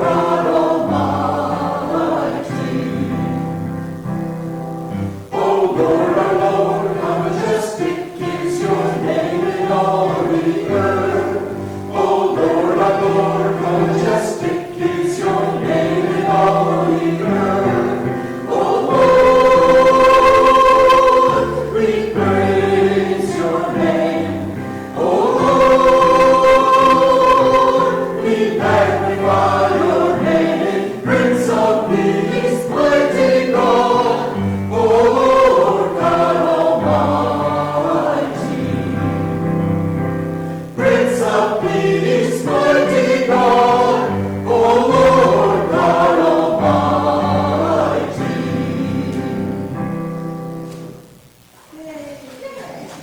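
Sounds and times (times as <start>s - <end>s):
group singing a hymn: 0.0s - 51.1s
piano accompaniment: 0.0s - 51.2s.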